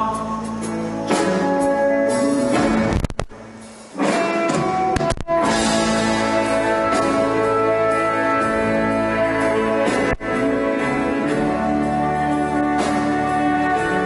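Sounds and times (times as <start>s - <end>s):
folk-rock band playing: 0.0s - 14.0s.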